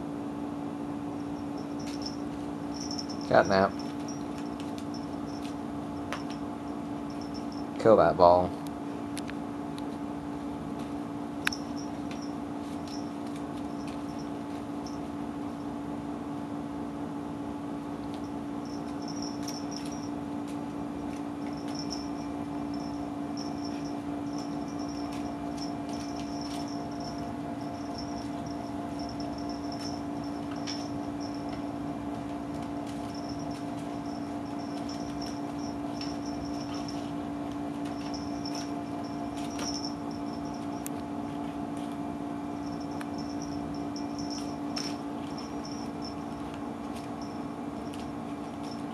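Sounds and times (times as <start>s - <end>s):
low hum: 0.0s - 7.8s, 8.5s - 16.0s, 17.8s - 48.9s.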